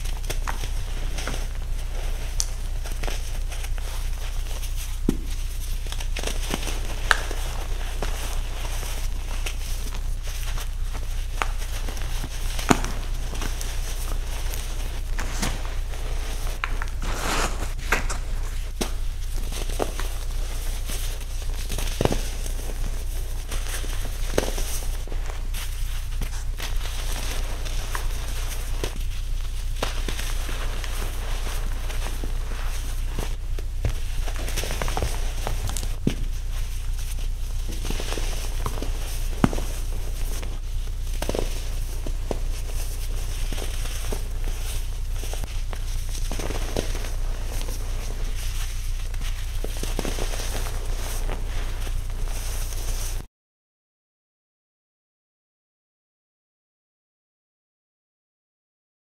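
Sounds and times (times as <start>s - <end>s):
powder clumps crunching: 0.0s - 53.3s.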